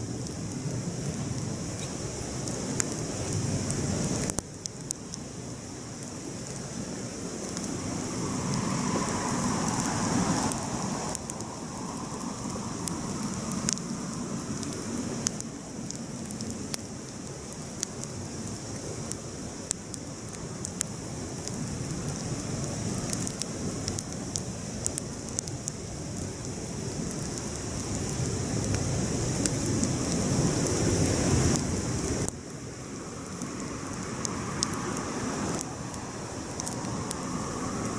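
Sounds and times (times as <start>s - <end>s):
burning wood crackling and popping: 0.0s - 37.9s
rush of campfire flames: 0.0s - 37.9s.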